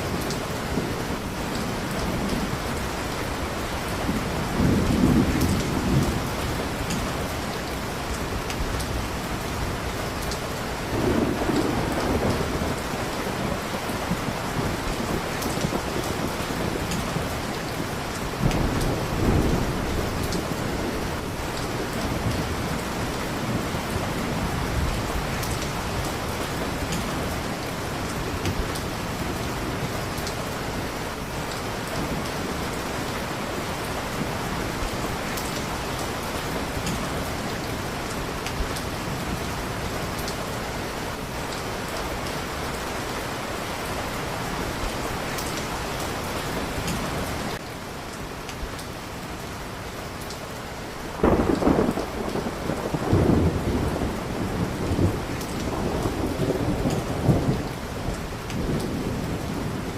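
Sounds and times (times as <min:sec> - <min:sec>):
thunder rumbling: 0:00.0 - 0:47.6, 0:51.1 - 0:59.9
heavy rain: 0:00.0 - 0:59.9.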